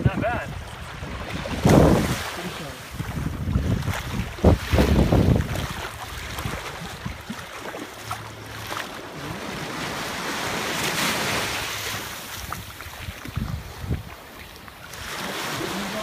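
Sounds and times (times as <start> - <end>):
wind buffeting microphone: 0.0 - 7.8, 9.4 - 16.0
waves washing on sandy beach: 0.0 - 16.0.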